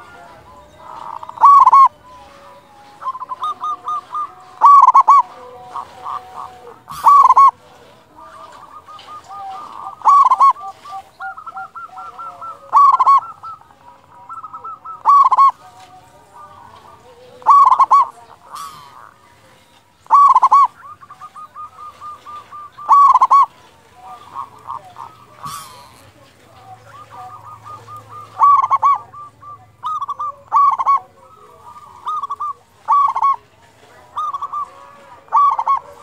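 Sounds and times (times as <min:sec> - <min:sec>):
dove loud cooing: 0:00.0 - 0:36.0
soft dove cooing: 0:00.0 - 0:36.0.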